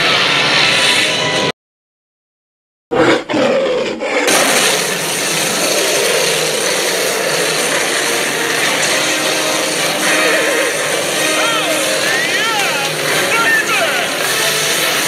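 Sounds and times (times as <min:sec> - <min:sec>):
loud rough monster roar: 0:02.9 - 0:15.0.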